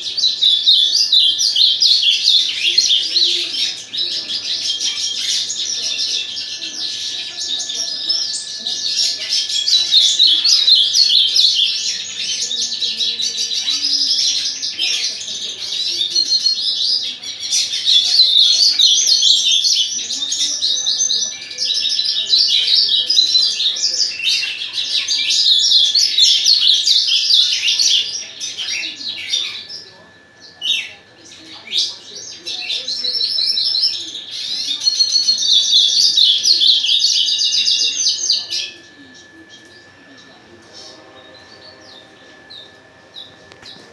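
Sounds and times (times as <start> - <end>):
faint high hum: 0.0 - 43.9
songbirds twittering chorus: 0.0 - 43.9.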